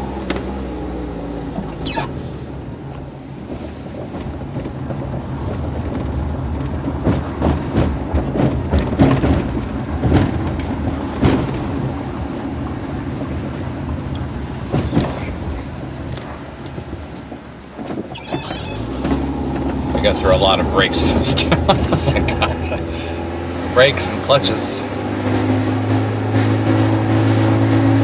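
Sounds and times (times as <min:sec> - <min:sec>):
car engine and road hum: 0:00.0 - 0:28.0.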